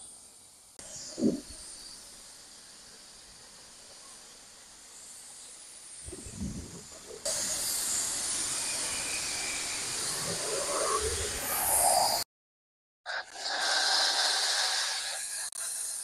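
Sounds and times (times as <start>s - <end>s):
steady hiss: 0.0s - 12.2s, 13.1s - 16.0s.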